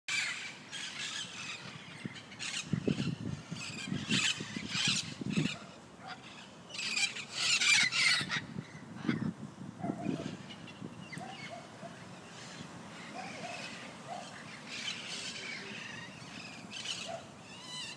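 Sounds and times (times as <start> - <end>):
parrots squawking and screeching: 0.1 - 17.9.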